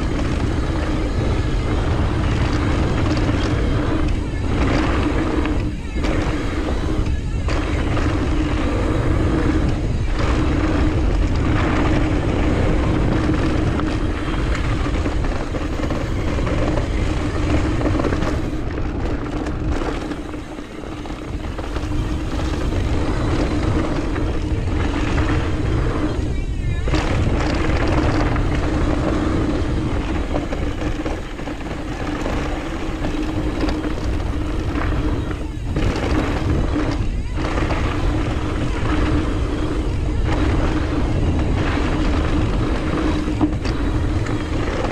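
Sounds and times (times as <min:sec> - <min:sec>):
mountain bike rattling on dirt trail: 0:00.0 - 0:44.9
steady buzz: 0:00.0 - 0:44.9
wind rushing over microphone: 0:00.0 - 0:44.9.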